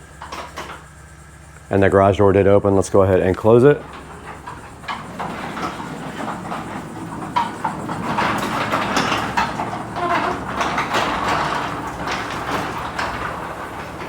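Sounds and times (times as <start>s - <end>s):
garage door rollers rattling: 0.0s - 14.0s.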